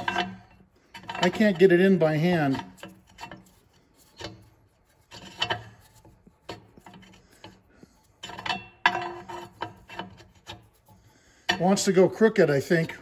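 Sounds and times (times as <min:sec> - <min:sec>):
metal threads scraping and clicking: 0:00.0 - 0:13.0.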